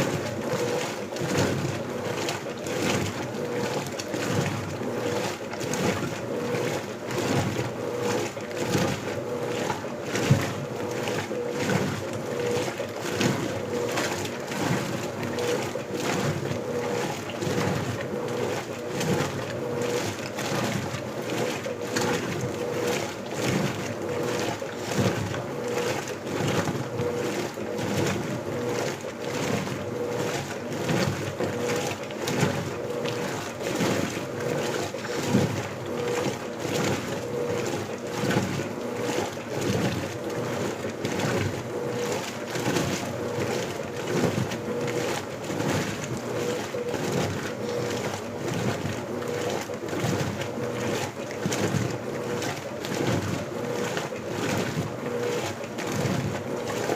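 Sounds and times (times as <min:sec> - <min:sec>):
washing machine motor humming: 0:00.0 - 0:56.9
water sloshing: 0:00.0 - 0:56.9.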